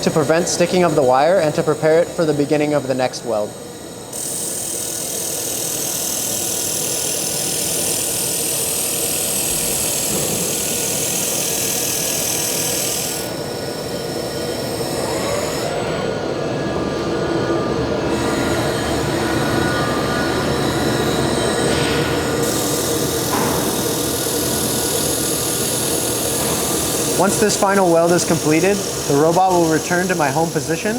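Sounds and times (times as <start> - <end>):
laser welder hissing: 0.0 - 15.7, 18.1 - 30.9
low steady machine noise: 0.0 - 30.9.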